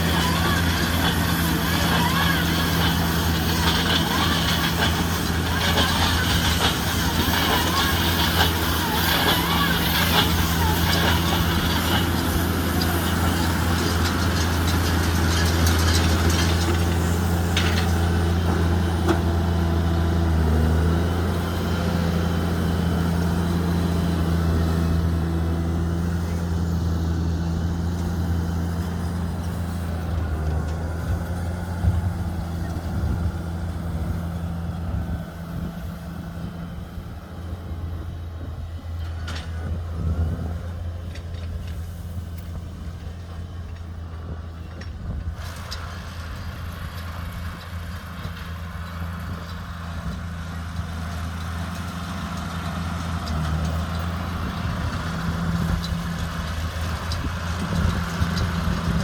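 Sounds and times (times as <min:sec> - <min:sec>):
tractor diesel engine humming: 0:00.0 - 0:59.0.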